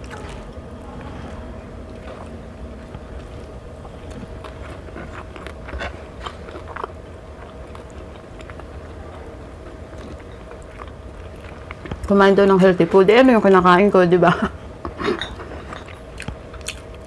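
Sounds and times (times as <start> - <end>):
person chewing food: 0.0 - 12.1, 14.9 - 17.0
low hum: 0.0 - 17.0.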